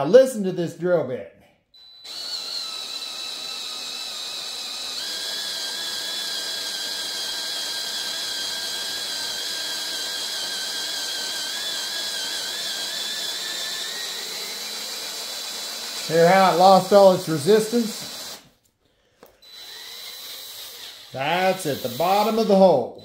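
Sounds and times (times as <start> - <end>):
cordless drill whining: 1.8 - 18.6, 19.2 - 23.0.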